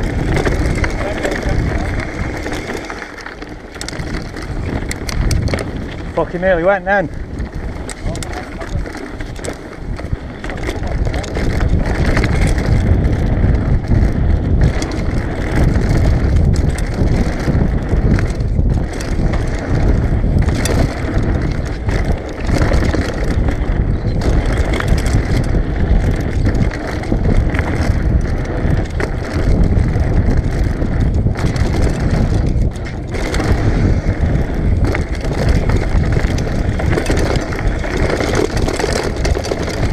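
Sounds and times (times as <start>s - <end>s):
bike rattling and knocking: 0.0s - 39.9s
tyres crunching over loose stones: 0.0s - 39.9s
wind rushing over microphone: 0.0s - 39.9s.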